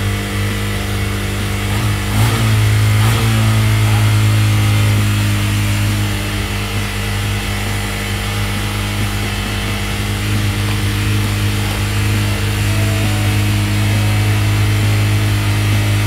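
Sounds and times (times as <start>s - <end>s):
quad engine idling: 0.0s - 16.0s.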